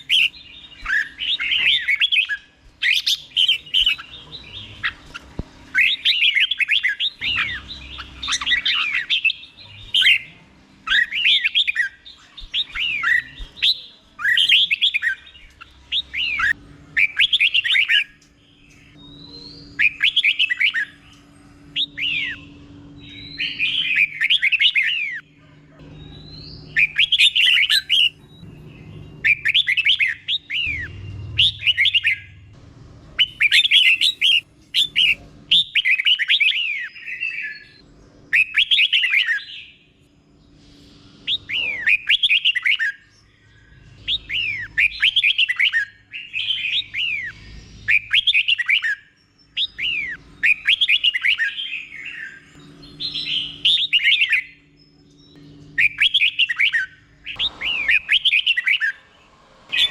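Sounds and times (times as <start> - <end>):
bird singing whistled phrases: 0.0 - 21.1, 25.9 - 28.5, 33.2 - 39.8, 41.2 - 59.1.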